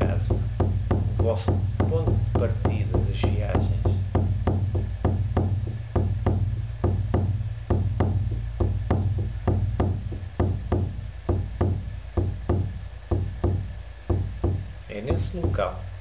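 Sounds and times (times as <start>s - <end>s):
hand drum beating: 0.0s - 15.9s.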